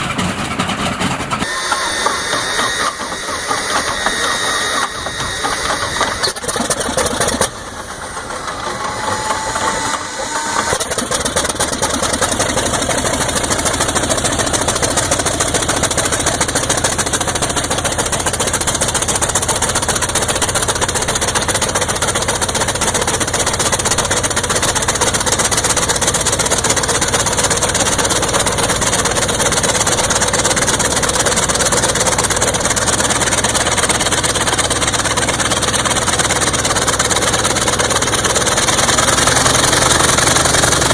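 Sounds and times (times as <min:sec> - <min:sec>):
aircraft engine starting and running: 0:00.0 - 0:40.9.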